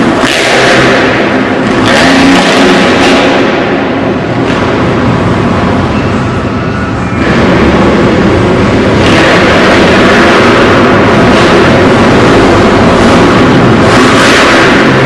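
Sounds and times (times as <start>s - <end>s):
motocross engine revving: 0.0s - 5.9s, 7.2s - 15.0s.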